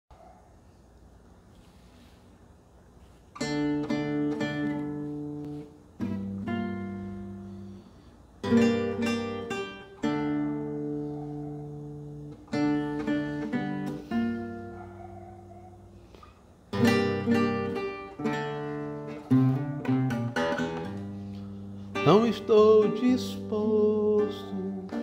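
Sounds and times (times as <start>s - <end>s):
acoustic guitar strummed chords: 3.4s - 16.0s, 16.7s - 25.0s.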